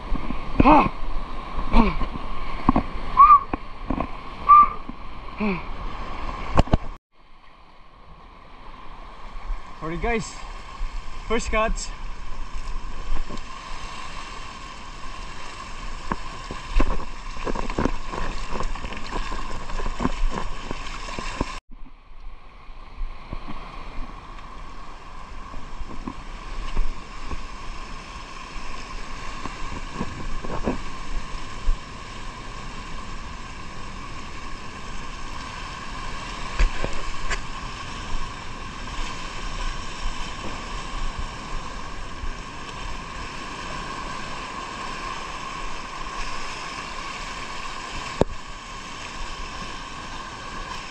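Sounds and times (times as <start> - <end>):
water noise: 0.0 - 50.9
wind: 0.0 - 50.9.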